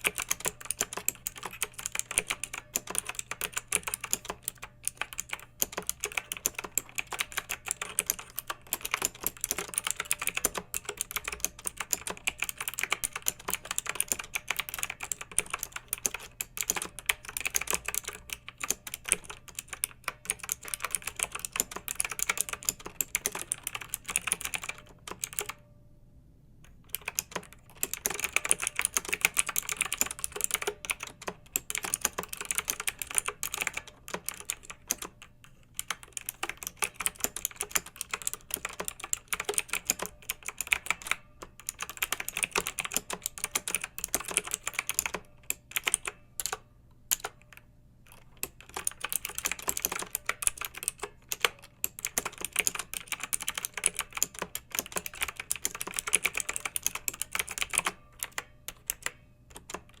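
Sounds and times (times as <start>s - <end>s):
mechanical keyboard typing: 0.0s - 25.6s, 26.7s - 60.0s.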